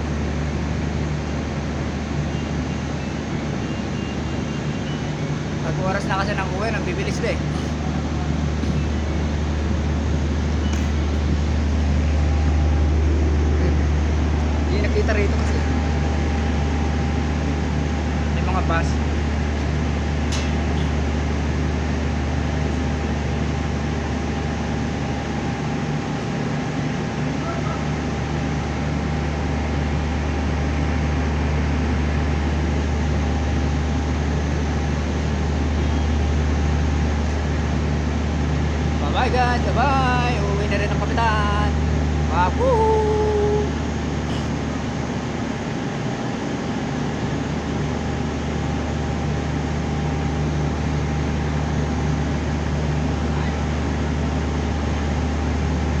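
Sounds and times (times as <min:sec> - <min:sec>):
low machinery hum: 0:00.0 - 0:56.0.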